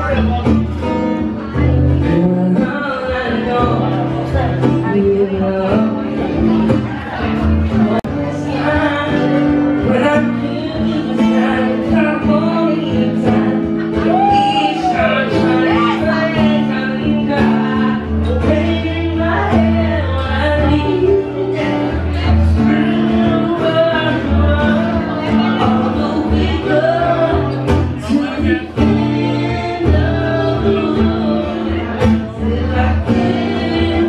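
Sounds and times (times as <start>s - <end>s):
man singing: 0.0s - 34.0s
second voice singing: 0.0s - 34.0s
strummed acoustic guitar: 0.0s - 34.0s.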